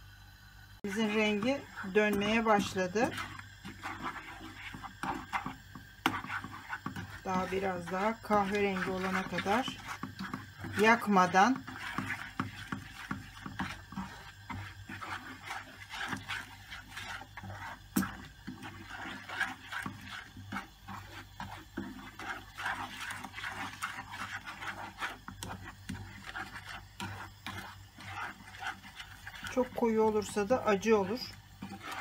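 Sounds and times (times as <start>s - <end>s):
low steady hum: 0.0s - 32.0s
wooden spoon scraping a pan: 0.8s - 32.0s.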